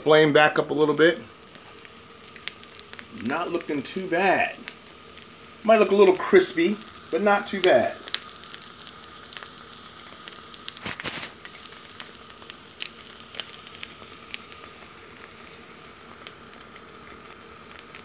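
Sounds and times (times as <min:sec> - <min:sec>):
egg sizzling in a pan: 0:00.0 - 0:18.0
loud sizzling rush: 0:00.0 - 0:18.0.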